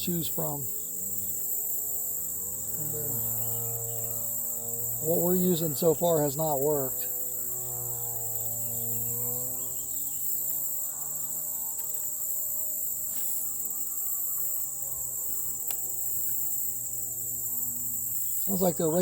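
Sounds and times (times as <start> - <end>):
distant small engine droning: 0.0 - 19.0
insects chorus: 0.0 - 19.0.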